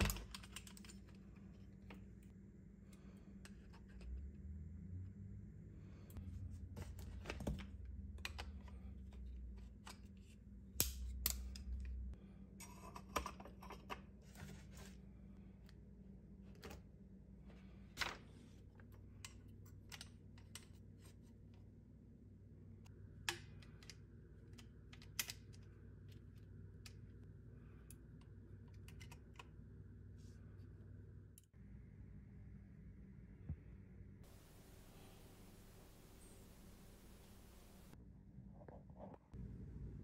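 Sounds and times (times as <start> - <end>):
faint low hum: 0.0 - 40.0.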